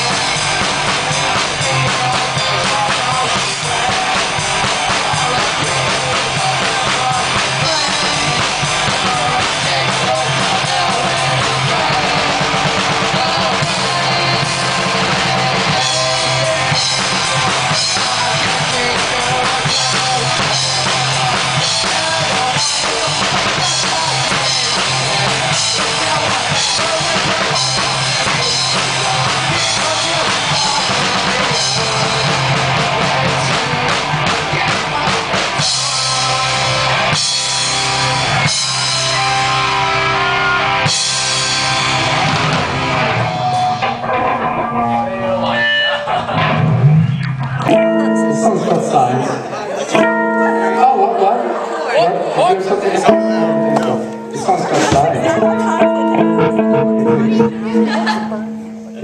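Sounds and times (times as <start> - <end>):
drum kit: 0.0 - 44.6, 53.1 - 59.0
bass guitar: 0.0 - 59.0
electric guitar: 0.0 - 59.0.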